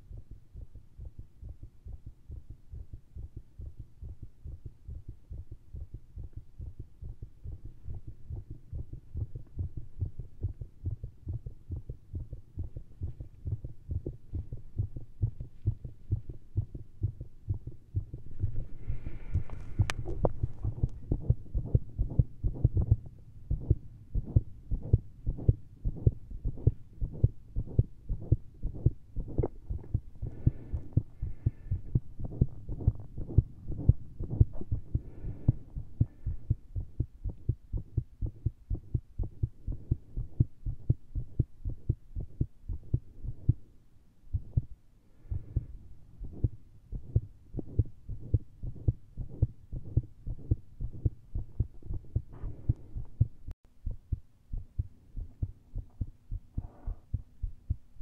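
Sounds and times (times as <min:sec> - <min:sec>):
fast irregular heartbeat thumps: 0:00.0 - 0:43.7, 0:44.3 - 0:58.0.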